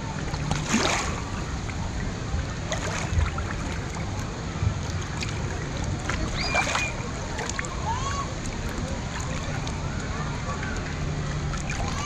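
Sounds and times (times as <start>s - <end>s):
water splash: 0.0s - 9.8s
water lapping and sloshing: 0.0s - 12.0s.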